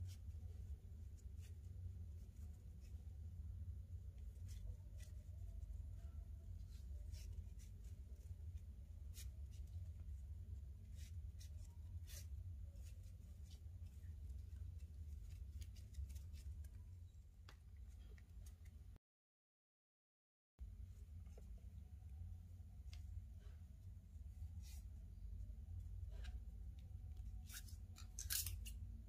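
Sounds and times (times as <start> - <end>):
steady low hum: 0.0 - 19.0, 20.6 - 29.0.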